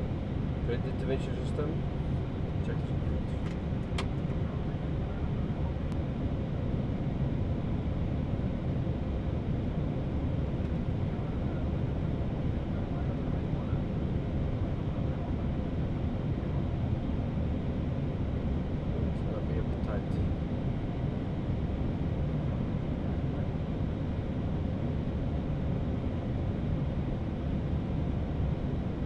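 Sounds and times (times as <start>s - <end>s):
airplane cockpit rumble: 0.0s - 29.0s.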